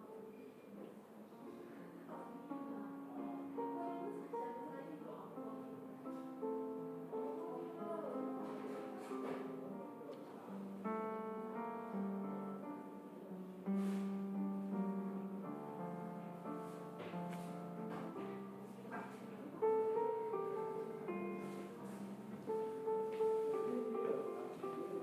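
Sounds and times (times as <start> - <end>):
slow instrumental music: 0.0 - 25.0.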